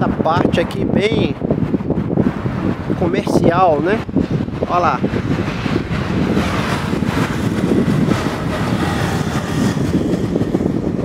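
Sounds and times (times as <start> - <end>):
road traffic rumble: 0.0 - 11.0
wind on microphone: 0.0 - 11.0.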